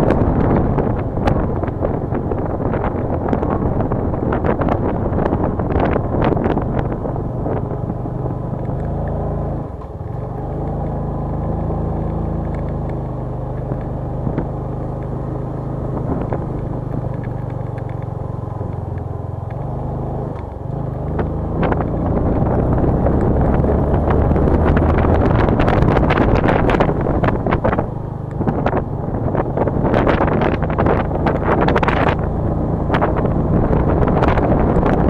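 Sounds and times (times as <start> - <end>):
noisy rush: 0.0 - 35.0
vehicle engine running: 0.0 - 35.0.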